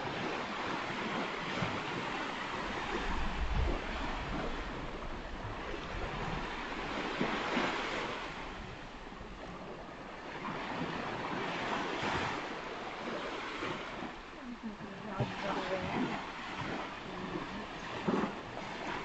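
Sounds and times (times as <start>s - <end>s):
waves breaking on a beach: 0.0s - 19.0s.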